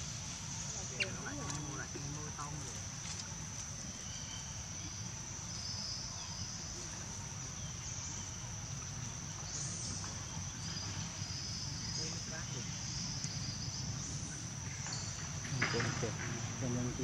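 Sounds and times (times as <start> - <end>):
insects droning: 0.0 - 17.0
low outdoor rumble: 0.0 - 17.0.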